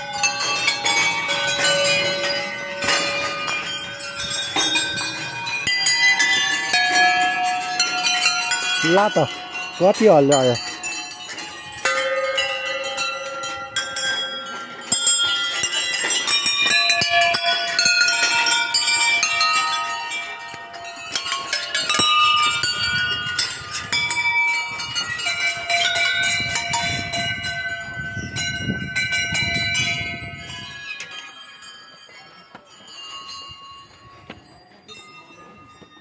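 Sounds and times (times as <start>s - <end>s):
metal temple bells ringing: 0.0s - 36.0s.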